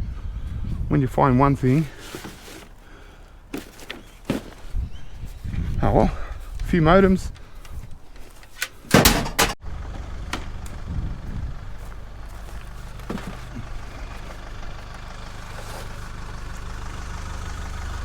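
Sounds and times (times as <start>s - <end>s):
vehicle engine idling: 0.2s - 18.0s.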